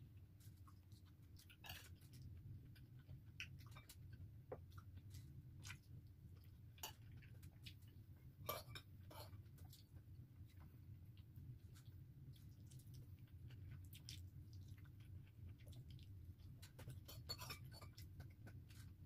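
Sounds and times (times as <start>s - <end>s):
low steady hum: 0.0s - 19.0s
person chewing: 0.2s - 19.0s.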